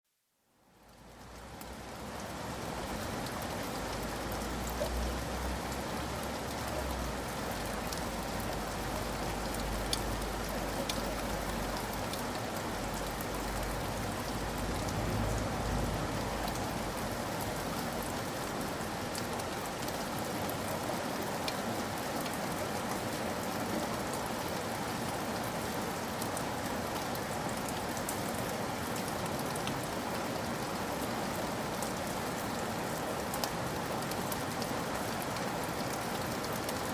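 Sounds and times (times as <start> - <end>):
heavy rain: 0.7 - 36.9.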